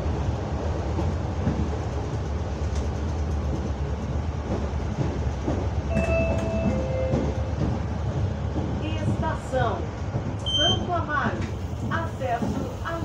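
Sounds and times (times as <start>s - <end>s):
electric train rumbling on rails: 0.0s - 13.0s.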